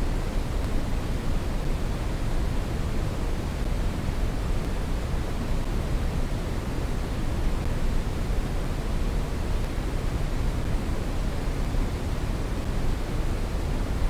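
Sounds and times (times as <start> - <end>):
steady brown noise: 0.0 - 14.0.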